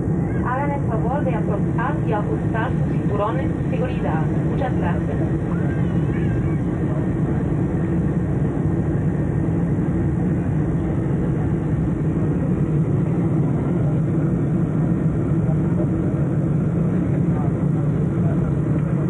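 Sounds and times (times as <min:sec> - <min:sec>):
jet engines droning in cabin: 0:00.0 - 0:19.0.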